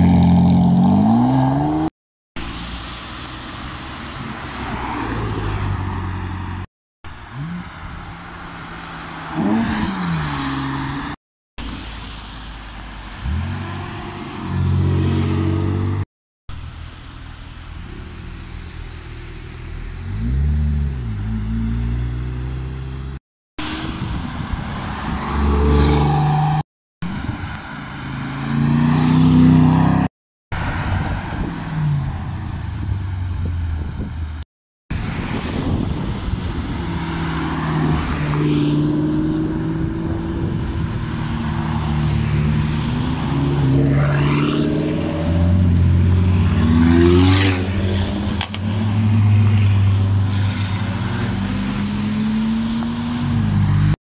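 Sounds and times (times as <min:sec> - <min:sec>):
cars driving past and accelerating: 0:00.0 - 0:54.0.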